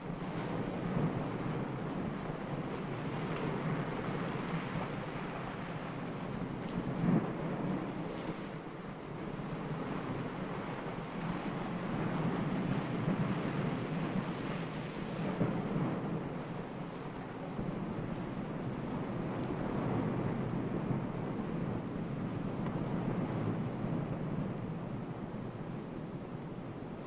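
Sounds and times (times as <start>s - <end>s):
rushing noise with low rumble: 0.0s - 27.0s.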